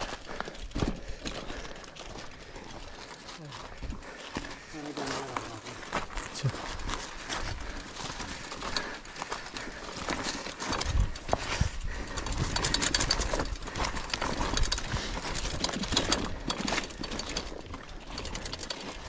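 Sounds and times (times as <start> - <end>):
bike knocking and rattling: 0.0 - 19.0
footsteps on stones: 0.0 - 19.0
tyres crunching on stones: 0.0 - 19.0.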